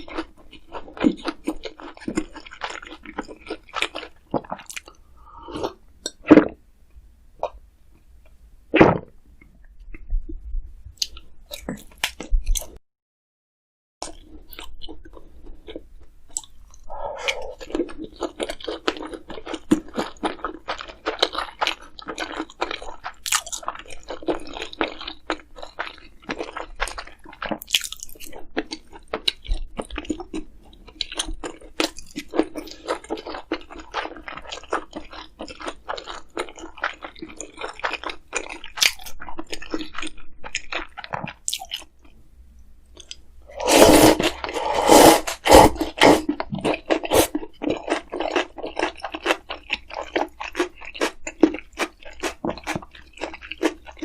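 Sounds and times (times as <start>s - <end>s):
chewing crisp food: 0.0s - 6.5s, 11.0s - 12.8s, 14.0s - 42.2s, 43.0s - 54.0s.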